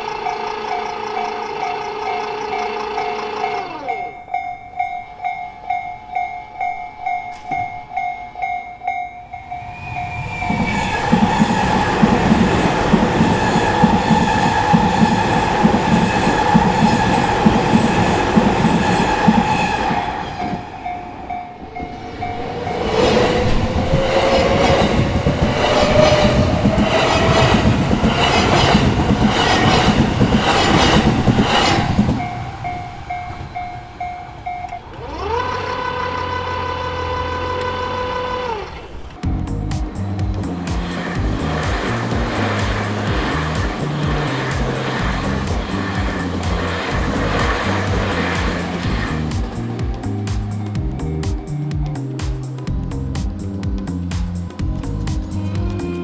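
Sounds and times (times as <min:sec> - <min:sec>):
train motor whine: 0:00.0 - 0:04.7, 0:09.2 - 0:50.2
crossing warning bell ringing: 0:00.0 - 0:39.1, 0:40.2 - 0:50.7
wheels clacking over rail joints: 0:00.0 - 0:55.5
electric trains passing: 0:00.0 - 0:56.0.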